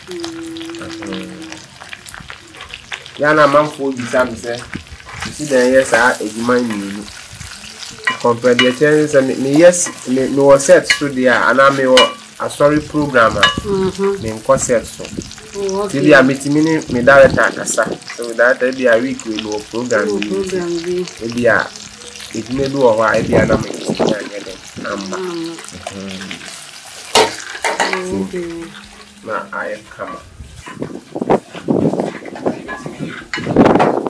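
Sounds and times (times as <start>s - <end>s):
food frying hiss: 0.0s - 34.0s.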